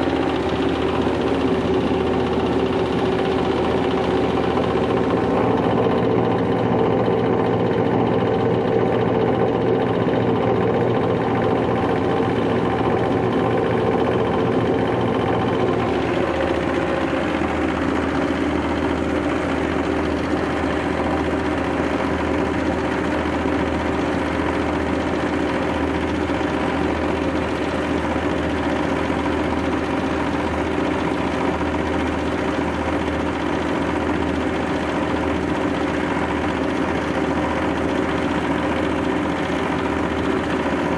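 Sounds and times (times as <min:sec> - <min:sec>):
grinding mill droning: 0:00.0 - 0:40.9.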